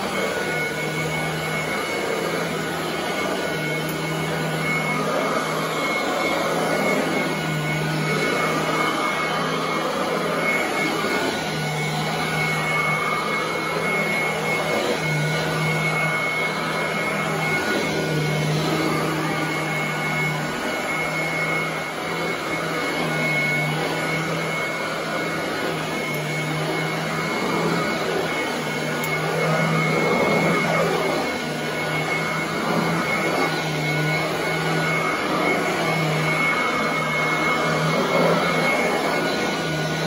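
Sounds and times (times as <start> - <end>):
vacuum cleaner running: 0.0 - 40.0.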